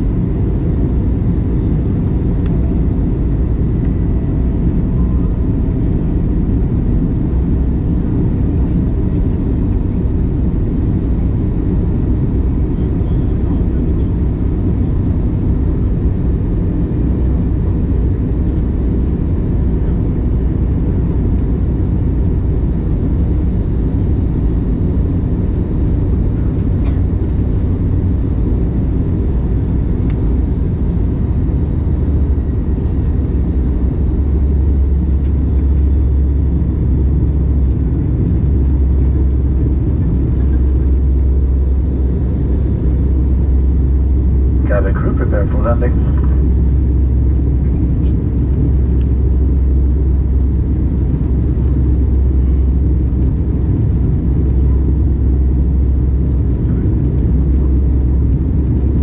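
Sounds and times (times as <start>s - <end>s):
airplane engine rumble in cabin: 0.0s - 59.0s.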